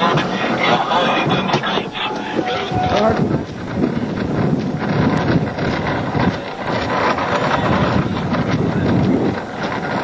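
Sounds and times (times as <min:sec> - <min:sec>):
road and wind noise inside car: 0:00.0 - 0:10.0.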